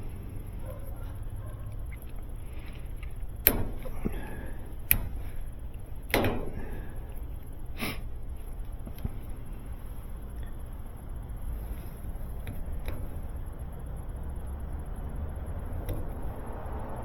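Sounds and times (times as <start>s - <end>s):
electrical tape snapping: 0.8s - 16.5s.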